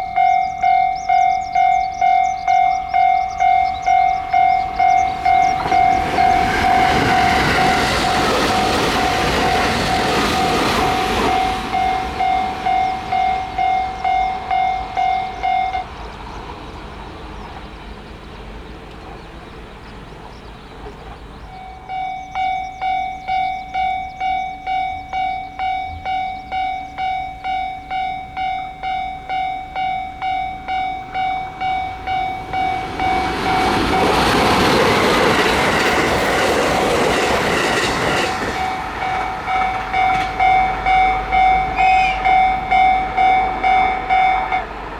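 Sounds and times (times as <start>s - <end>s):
level crossing bell ringing: 0.0s - 16.0s, 21.5s - 44.8s
train passing: 0.0s - 44.9s.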